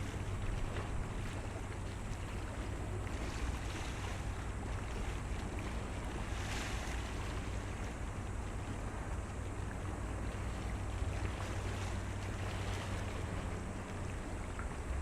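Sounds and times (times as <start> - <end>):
boat engine rumbling: 0.0 - 15.0
water noise: 0.0 - 15.0
wind: 0.0 - 15.0.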